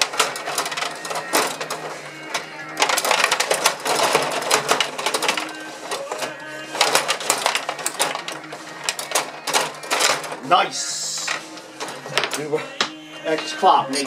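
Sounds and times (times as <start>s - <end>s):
table hockey rods rattling: 0.0s - 12.8s.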